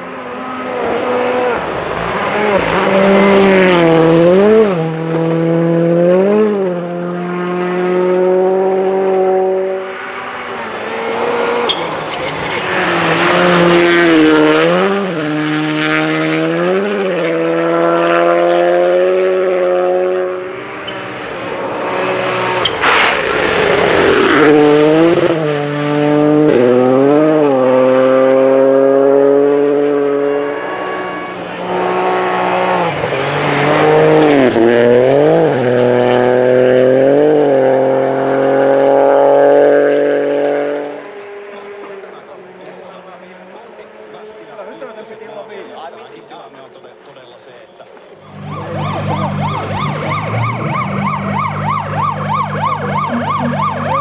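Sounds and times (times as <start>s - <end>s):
rally car engines at full throttle: 0.0s - 54.0s.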